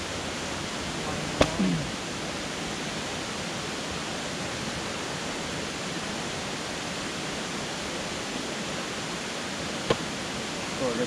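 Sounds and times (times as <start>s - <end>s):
river rushing over rapids: 0.0s - 11.0s.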